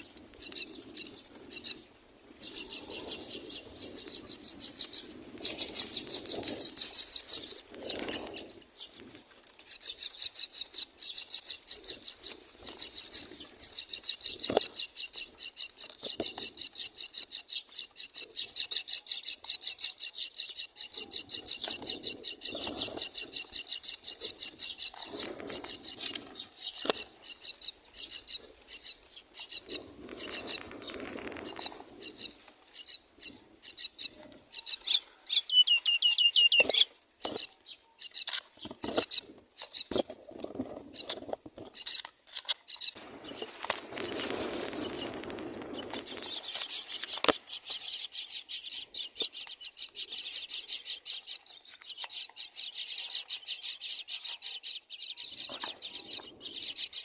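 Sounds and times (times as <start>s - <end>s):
chicks begging chirps: 0.0s - 40.0s, 42.6s - 57.0s.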